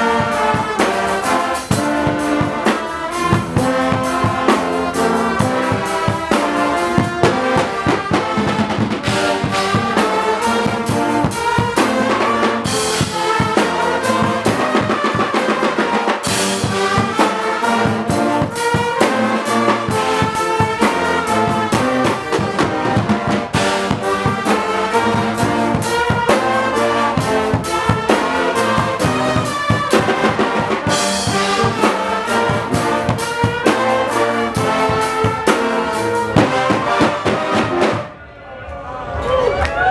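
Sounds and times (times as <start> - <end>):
brass playing a tune: 0.0 - 38.2
drums beating: 0.0 - 38.2.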